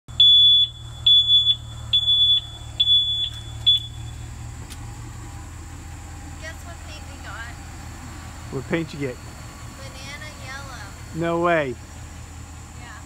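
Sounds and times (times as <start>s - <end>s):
truck reverse alarm beeping: 0.1s - 12.8s
truck engine running low: 0.1s - 13.0s.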